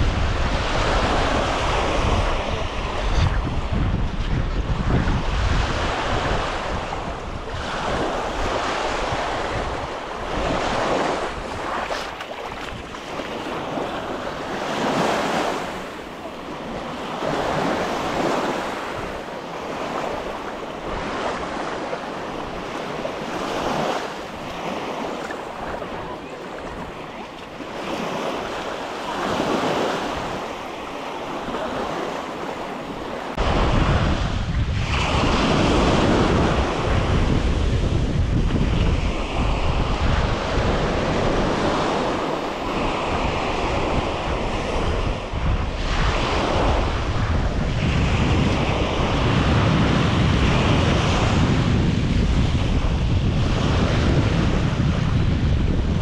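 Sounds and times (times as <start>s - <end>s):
surf breaking on beach: 0.0s - 56.0s
wind buffeting microphone: 0.0s - 56.0s.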